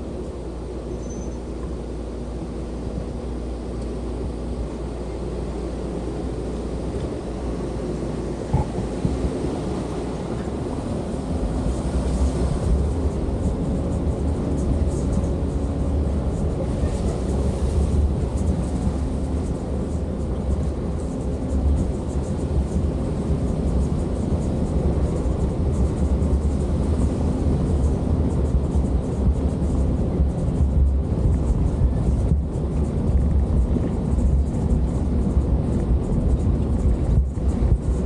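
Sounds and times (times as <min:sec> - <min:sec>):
vehicle engine rumble: 0:00.0 - 0:38.0.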